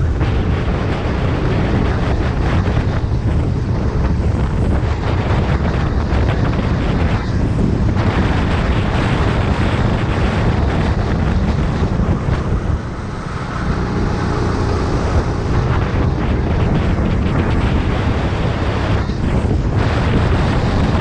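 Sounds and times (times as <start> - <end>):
kart engine running: 0.0 - 21.0
wind buffeting microphone: 0.0 - 21.0.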